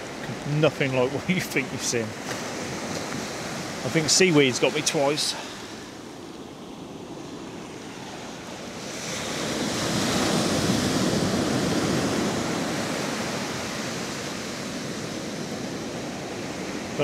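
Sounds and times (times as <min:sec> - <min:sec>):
sea waves washing on beach: 0:00.0 - 0:17.0.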